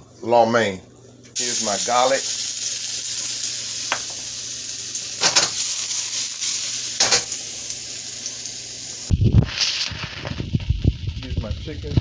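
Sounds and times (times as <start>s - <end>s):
garlic sizzling in hot oil: 1.4s - 12.0s.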